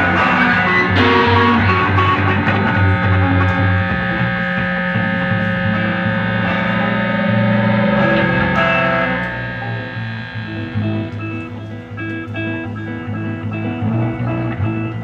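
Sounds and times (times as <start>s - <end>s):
distorted electric guitar drone: 0.0s - 15.0s.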